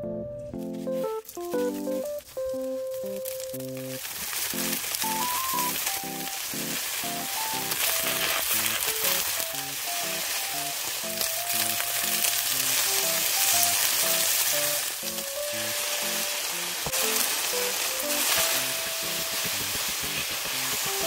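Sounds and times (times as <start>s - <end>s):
shrimp sizzling in oil: 2.6s - 21.0s.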